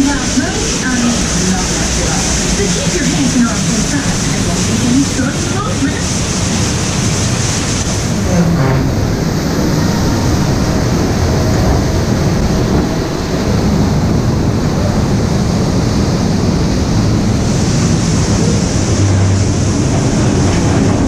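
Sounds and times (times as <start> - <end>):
ride cars rolling on track: 0.0 - 21.0
waterfall splashing: 0.0 - 21.0.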